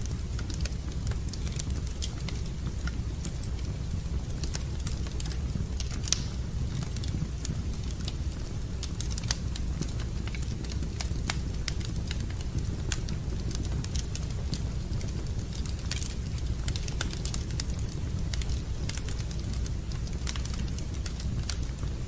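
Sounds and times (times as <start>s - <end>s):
fire crackling in fireplace: 0.0s - 22.0s.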